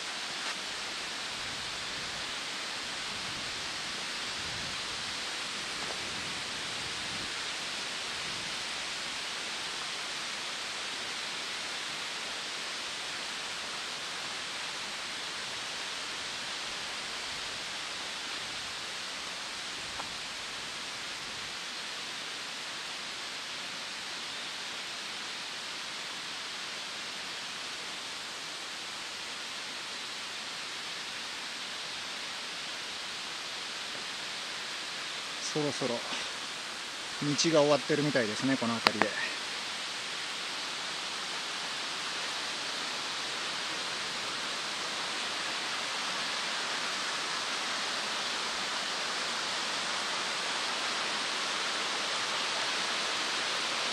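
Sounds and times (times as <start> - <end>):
steady rushing hiss: 0.0 - 53.9.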